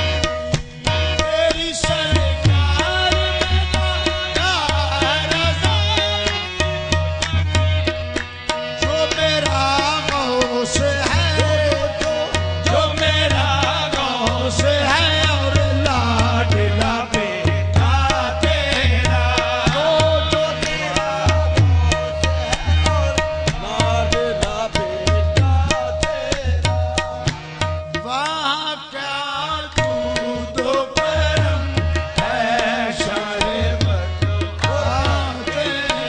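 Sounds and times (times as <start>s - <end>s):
harmonium: 0.0s - 36.0s
men singing: 0.0s - 36.0s.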